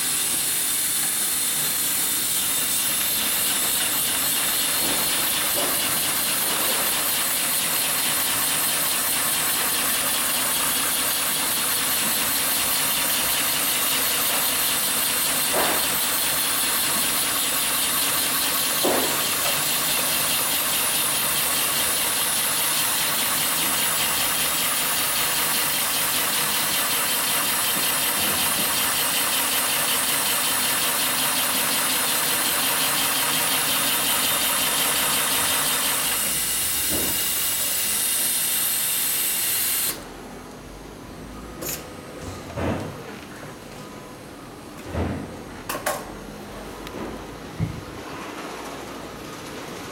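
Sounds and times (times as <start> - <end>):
industrial sewing machine running: 0.0 - 40.0.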